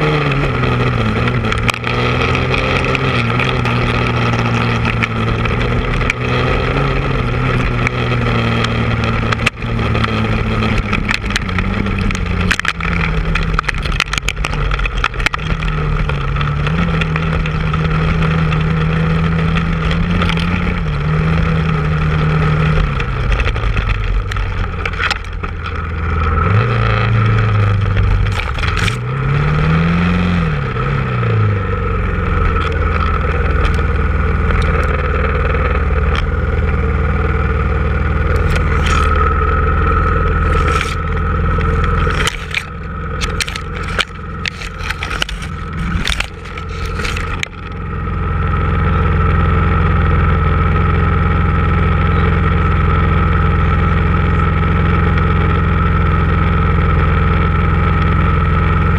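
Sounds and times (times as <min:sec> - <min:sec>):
branches cracking and rustling: 0:00.0 - 0:31.1, 0:32.0 - 0:49.9
off-road engine running: 0:00.0 - 0:58.9.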